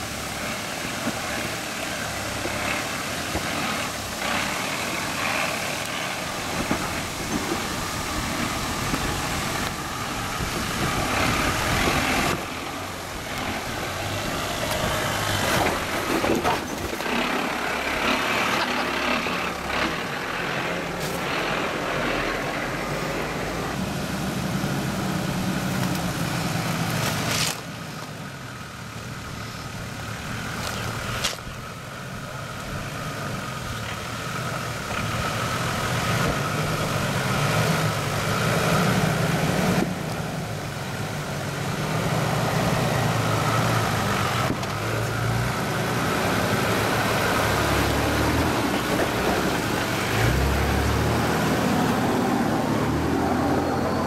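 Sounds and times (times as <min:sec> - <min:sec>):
diesel engine running: 0:00.0 - 0:54.0
diesel engine under load: 0:00.0 - 0:54.0.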